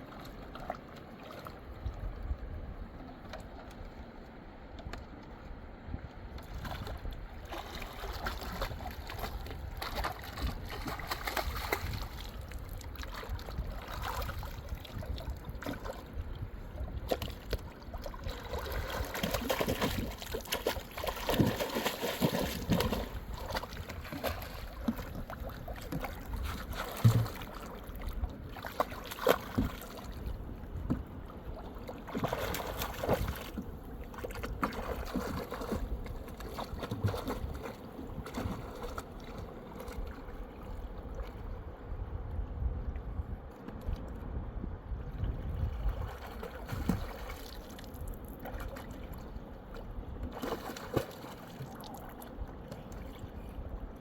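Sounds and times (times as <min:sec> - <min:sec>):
river water splashing: 0:00.0 - 0:05.2, 0:06.4 - 0:41.7, 0:45.2 - 0:53.6
low rumble of moving water: 0:00.0 - 0:54.0.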